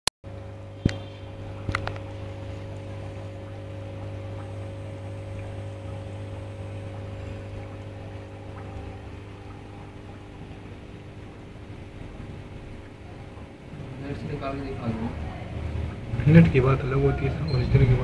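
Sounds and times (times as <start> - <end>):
aquarium pump humming: 0.3 - 18.0.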